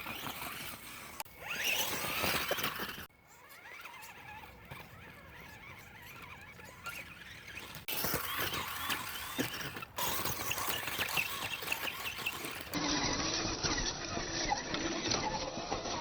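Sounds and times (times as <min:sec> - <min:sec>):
electric motor whining: 0:00.0 - 0:16.0
rc truck scrabbling: 0:00.0 - 0:16.0.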